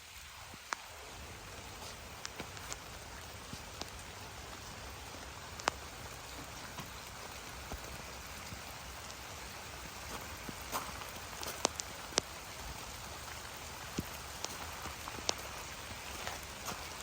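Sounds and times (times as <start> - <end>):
steady rain hiss: 0.0 - 17.0
raindrops ticking: 0.1 - 17.0.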